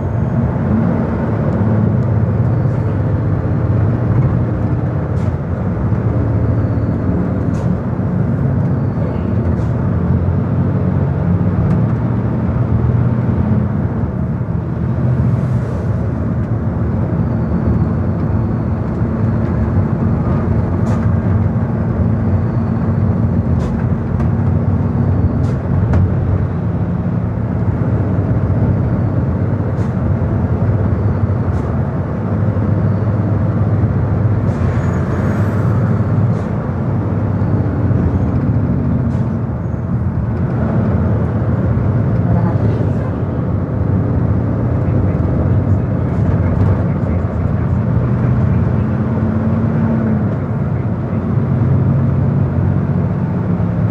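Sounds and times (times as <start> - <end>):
road and tyre noise: 0.0 - 53.9.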